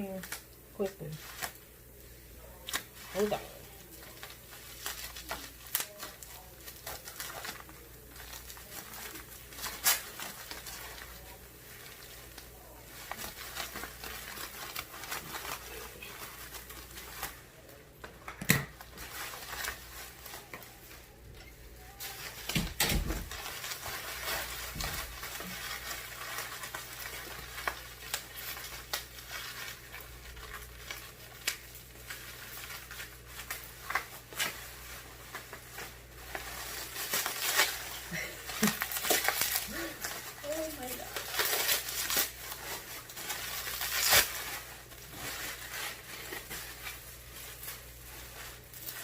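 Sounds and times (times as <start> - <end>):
packaging rustling: 0.1 - 49.0.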